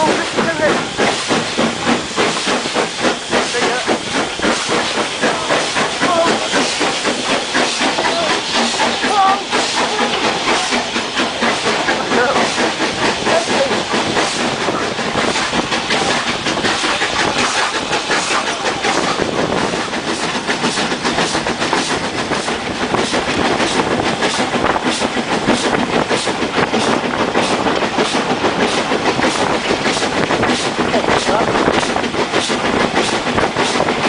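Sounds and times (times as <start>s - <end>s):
steam train running: 0.0s - 34.0s.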